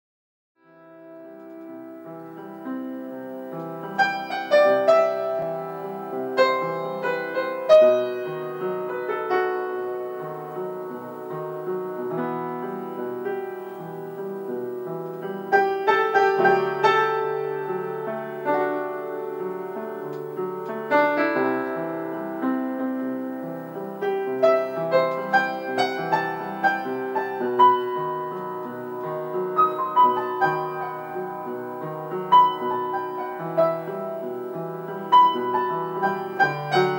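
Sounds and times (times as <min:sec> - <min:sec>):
solo piano: 0:00.6 - 0:36.9.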